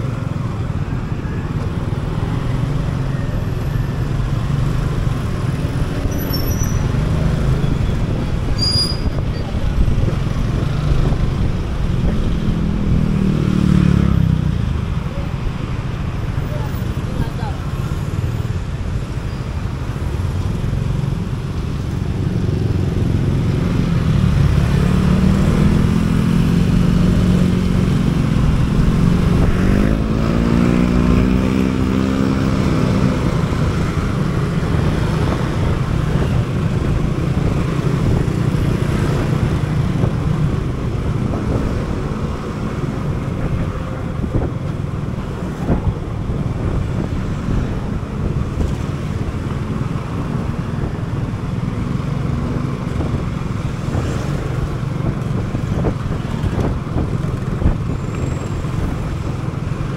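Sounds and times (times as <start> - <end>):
scooter engine and road noise: 0.0 - 59.9.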